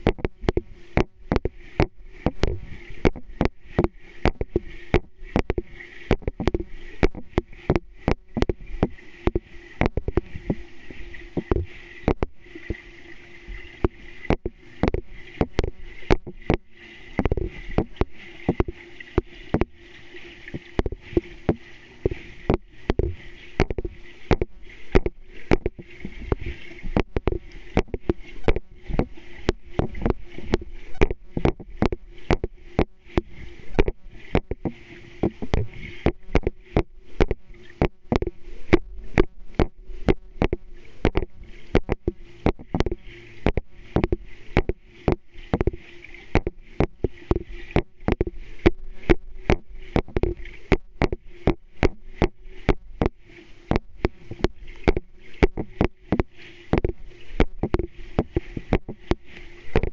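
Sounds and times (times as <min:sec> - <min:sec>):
steady low hum: 0:00.0 - 0:59.9
underwater clicks and knocks: 0:00.0 - 0:59.9.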